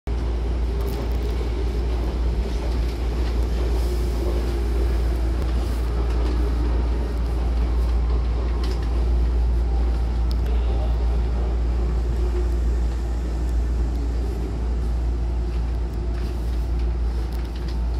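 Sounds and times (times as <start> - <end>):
electric train humming: 0.1 - 17.9.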